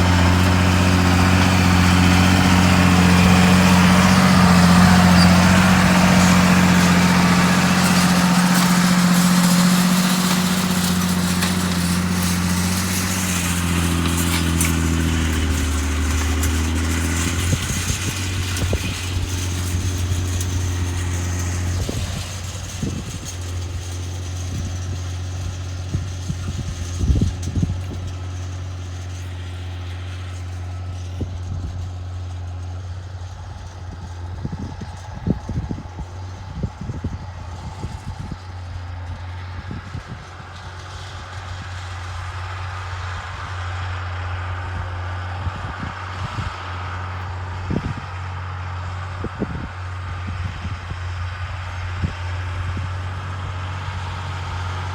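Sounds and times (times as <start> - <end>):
tractor diesel engine droning: 0.0 - 54.9.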